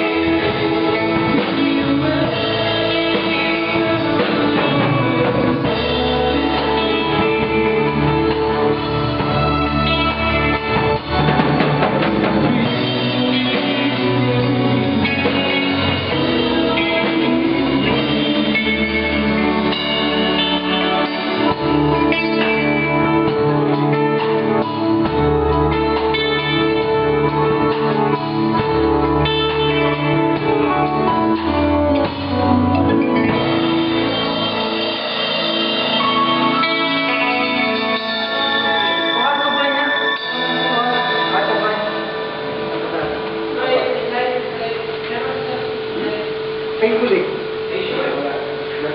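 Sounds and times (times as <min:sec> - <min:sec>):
electric guitar: 0:00.0 - 0:48.9
live rock band playing: 0:00.0 - 0:48.9.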